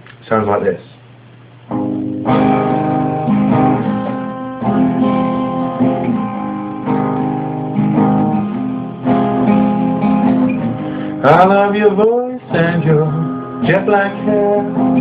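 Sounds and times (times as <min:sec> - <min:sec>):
guitar strumming chords: 0:01.7 - 0:15.0.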